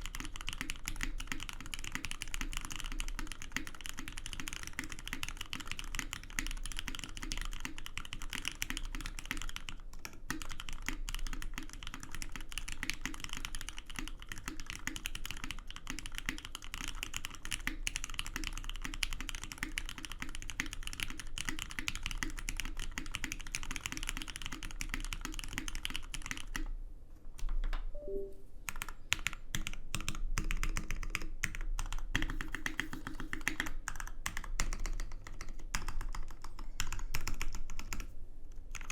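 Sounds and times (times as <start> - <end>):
fast mechanical keyboard typing: 0.0 - 26.7, 28.7 - 38.1.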